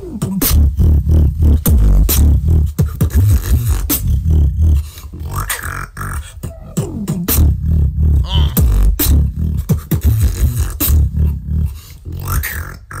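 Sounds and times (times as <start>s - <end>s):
vocal beatboxing: 0.0s - 13.0s.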